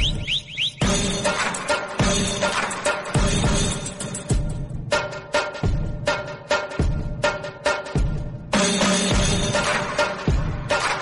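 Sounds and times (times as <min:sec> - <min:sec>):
music with loud drums: 0:00.0 - 0:11.0.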